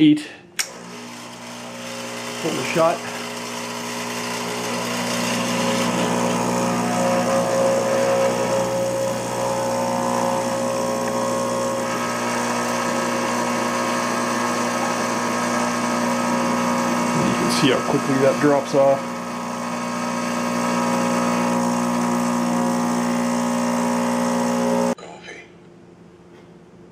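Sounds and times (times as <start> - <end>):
espresso machine pump buzzing: 0.6 - 25.0.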